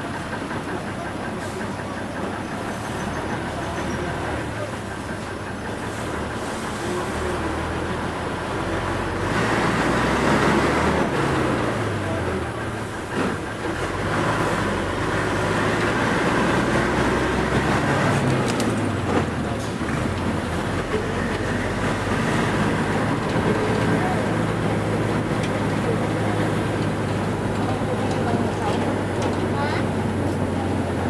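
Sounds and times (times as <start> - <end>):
bus engine running: 0.0 - 31.0
road and rattle noise: 0.0 - 31.0.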